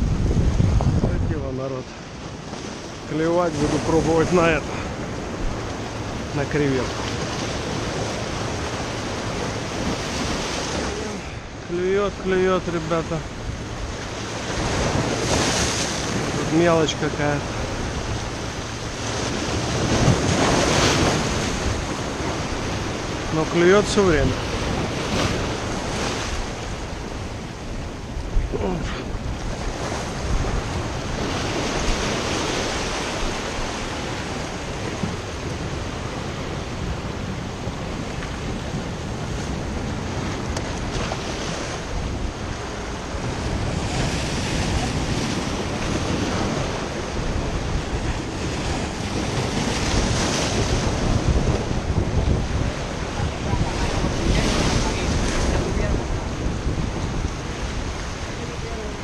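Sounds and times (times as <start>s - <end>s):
surf washing over rocks: 0.0s - 59.0s
wind buffeting microphone: 0.0s - 59.0s.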